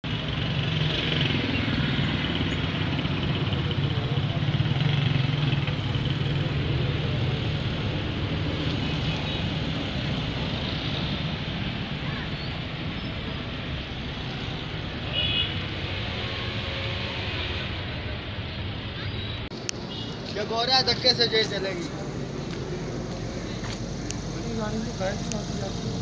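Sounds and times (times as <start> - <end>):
road roller diesel engine: 0.0 - 26.0.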